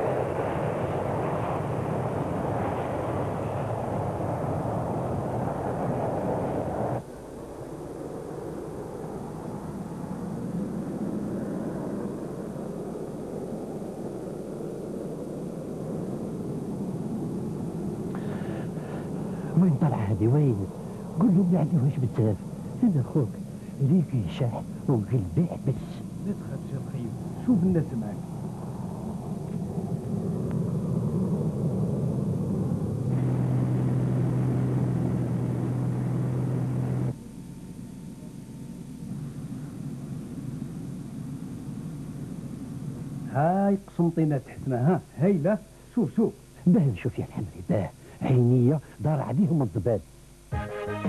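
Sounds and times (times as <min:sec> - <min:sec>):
jet engines at takeoff: 0:00.0 - 0:50.4.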